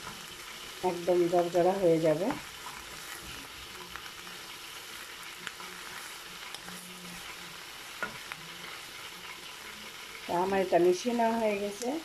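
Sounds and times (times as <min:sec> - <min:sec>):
wooden spatula scraping a pan: 0:00.0 - 0:10.2
food sizzling in a wok: 0:00.0 - 0:12.0.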